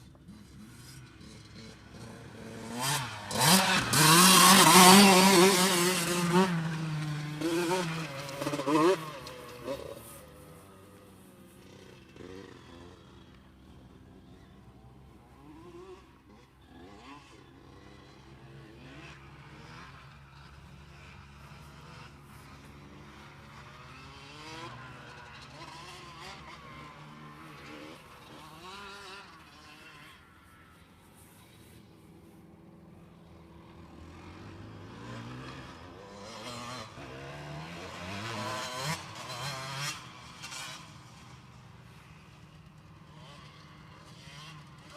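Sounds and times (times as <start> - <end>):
distant motocross bikes revving: 0.0 - 44.9.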